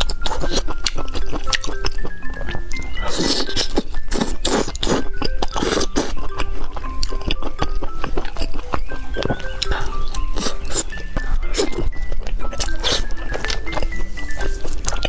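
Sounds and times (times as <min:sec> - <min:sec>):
bright melody background music: 0:00.0 - 0:15.0
crunchy bites and chewing: 0:00.0 - 0:15.0.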